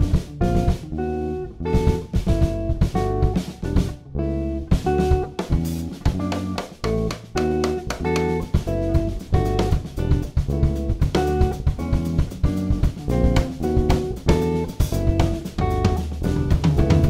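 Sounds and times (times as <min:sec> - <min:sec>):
jazz trio playing: 0:00.0 - 0:17.0.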